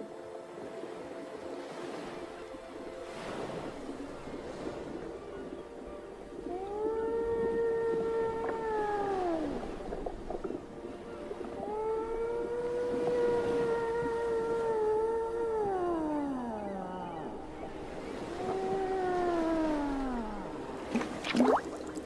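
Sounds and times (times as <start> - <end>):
whale song calls: 3.1 - 22.0.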